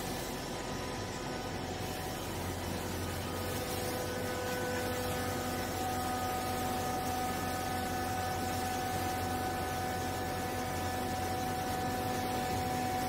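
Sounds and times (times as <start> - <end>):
hydraulic baler humming and whining: 0.0 - 13.0.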